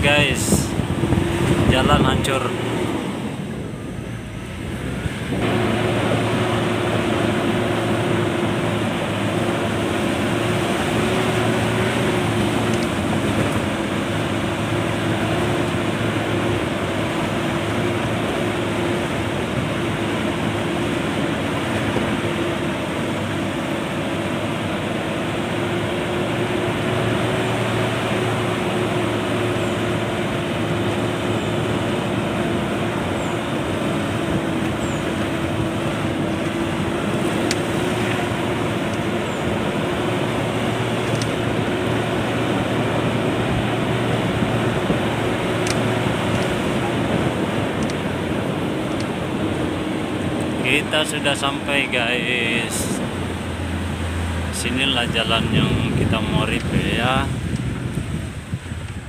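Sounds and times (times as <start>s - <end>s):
tyre and road noise: 0.0s - 59.0s
vehicle engine running: 0.0s - 59.0s.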